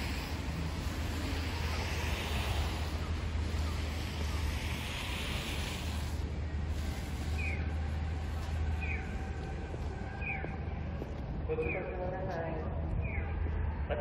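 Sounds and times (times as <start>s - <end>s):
city street noise: 0.0s - 14.0s
wind buffeting microphone: 0.0s - 14.0s.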